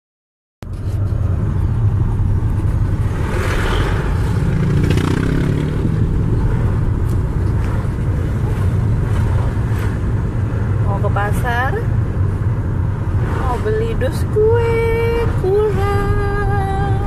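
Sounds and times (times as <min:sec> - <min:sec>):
car engine rumble: 0:00.6 - 0:17.0
road noise: 0:00.6 - 0:17.0.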